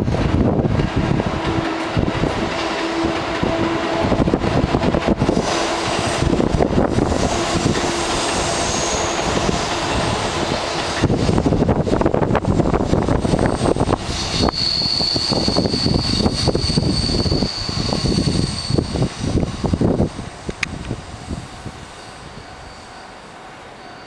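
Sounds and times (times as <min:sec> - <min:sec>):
electric train pulling away: 0:00.0 - 0:24.0.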